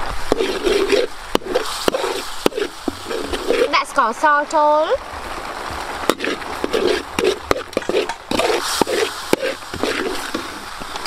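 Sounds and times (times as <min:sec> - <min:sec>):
metal ladle scraping a wok: 0:00.0 - 0:04.1, 0:06.0 - 0:11.0
sauce sizzling: 0:00.0 - 0:11.0.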